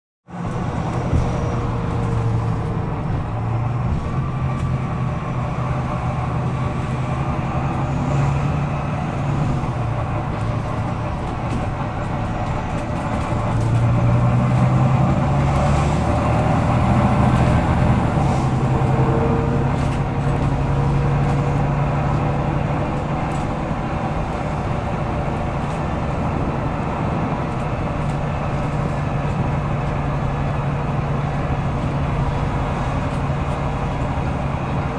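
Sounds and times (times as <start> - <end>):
bus diesel engine drone: 0.2 - 34.9
road noise: 0.2 - 34.9.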